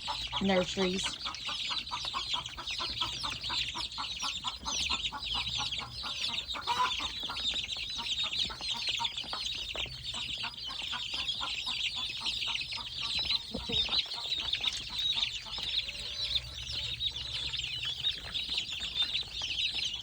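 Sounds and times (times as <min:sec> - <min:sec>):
chicks and ducklings peeping: 0:00.0 - 0:20.0.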